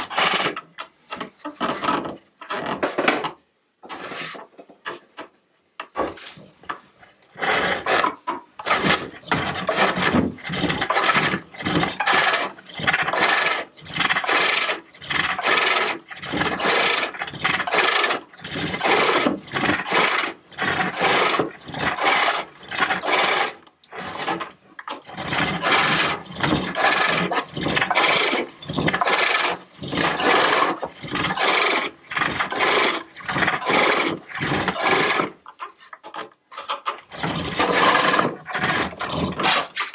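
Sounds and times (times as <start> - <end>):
hook tool scraping wood on lathe: 0.0 - 1.9, 7.3 - 39.9.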